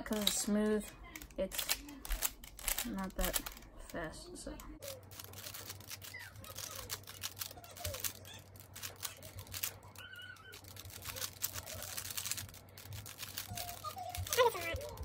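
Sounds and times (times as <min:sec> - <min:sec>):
puzzle cube clicking: 0:01.2 - 0:03.6, 0:04.8 - 0:15.0.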